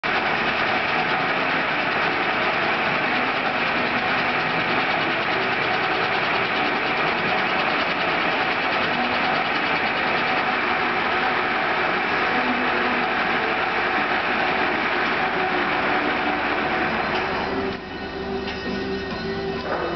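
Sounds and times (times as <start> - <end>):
lathe whirring: 0.0 - 19.9.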